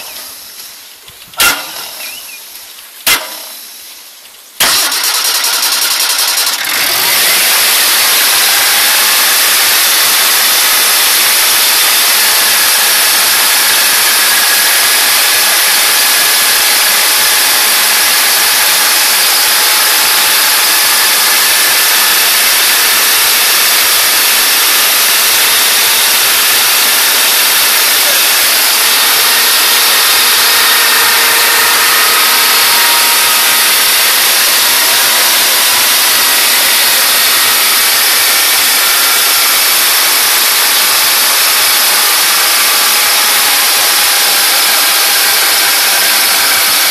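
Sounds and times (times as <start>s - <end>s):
generator engine running: 4.6s - 46.9s.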